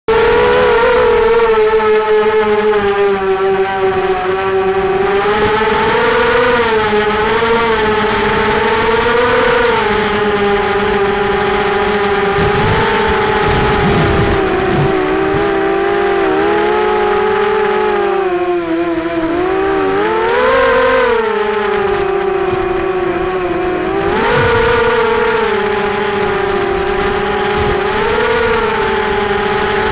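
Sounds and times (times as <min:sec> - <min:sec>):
drone motors whining: 0:00.1 - 0:29.9.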